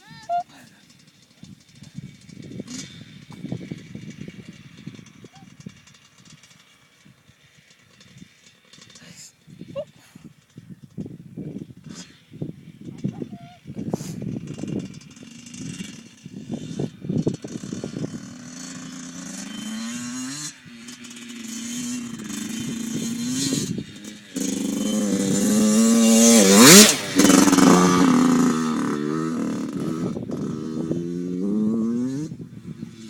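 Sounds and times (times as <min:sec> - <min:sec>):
dirt bike engine revving: 0:00.0 - 0:10.5, 0:11.6 - 0:33.0.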